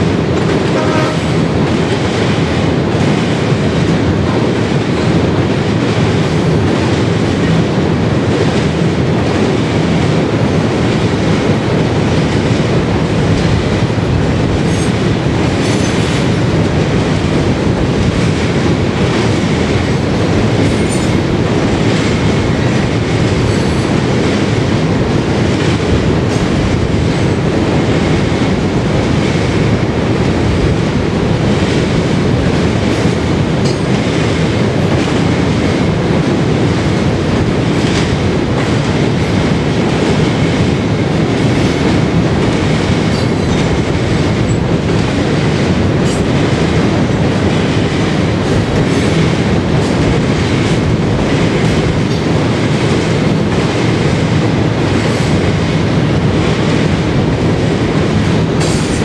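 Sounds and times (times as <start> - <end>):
freight cars rumbling on rails: 0.0 - 59.0.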